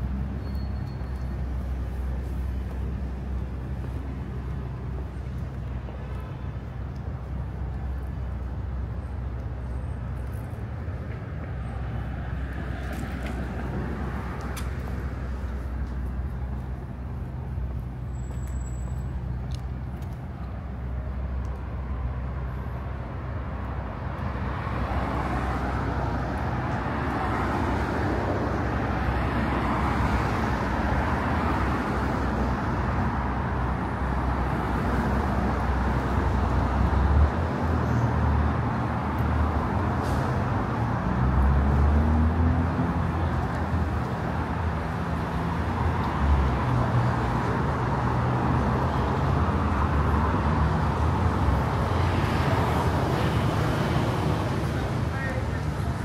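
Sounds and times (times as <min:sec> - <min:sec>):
rumble of passing cars: 0:00.0 - 0:56.0.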